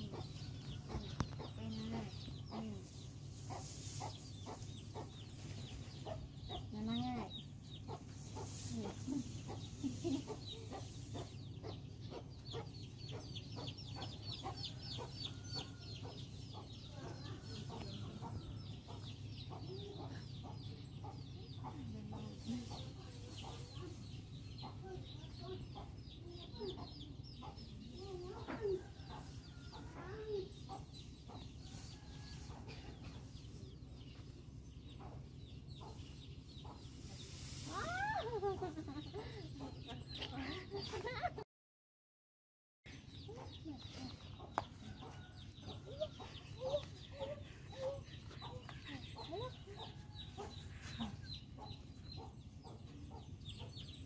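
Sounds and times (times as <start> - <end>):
chickens clucking: 0.0 - 41.4, 42.9 - 54.0.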